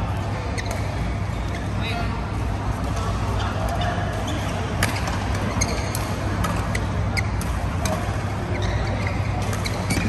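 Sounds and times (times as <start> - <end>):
court shoes squeaking: 0.4 - 2.0, 3.4 - 10.0.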